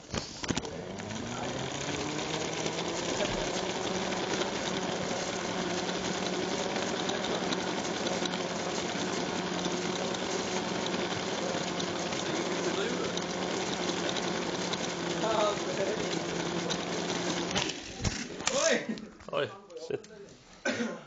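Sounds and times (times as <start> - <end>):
toy car motor humming: 0.2 - 18.4.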